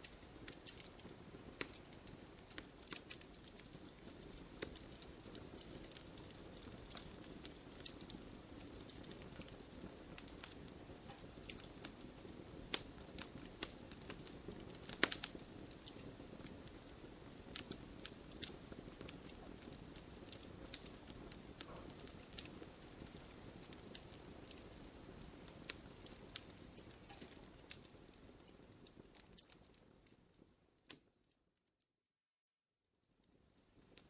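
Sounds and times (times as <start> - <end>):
flames hissing and rumbling: 0.0 - 30.4
fire crackles and pops: 0.0 - 31.5, 33.0 - 34.0.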